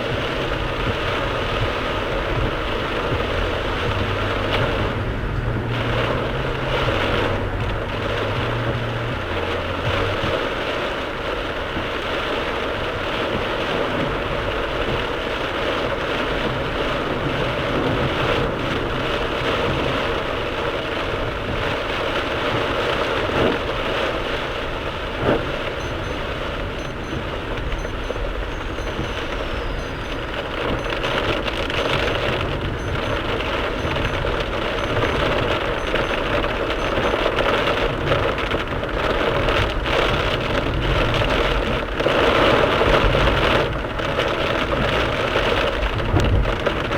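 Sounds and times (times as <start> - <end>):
heavy rain on car: 0.0 - 46.9
tyre and road noise: 0.0 - 46.9.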